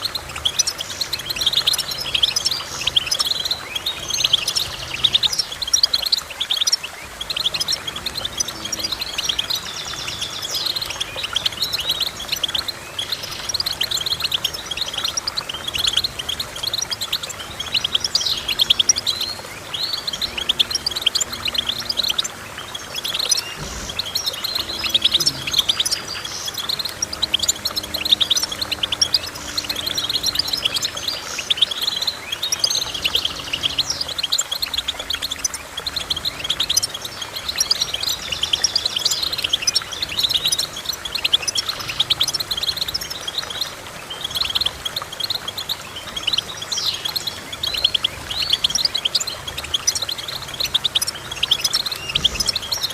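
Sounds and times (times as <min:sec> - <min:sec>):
finch twittering song: 0:00.0 - 0:52.9.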